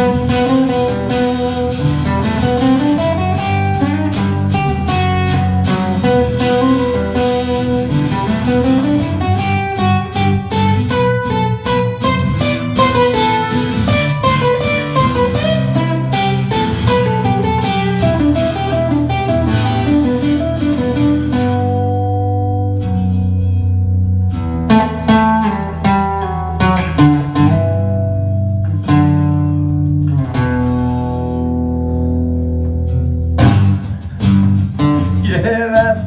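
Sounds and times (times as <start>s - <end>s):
acoustic guitar strumming chords: 0.0s - 36.0s.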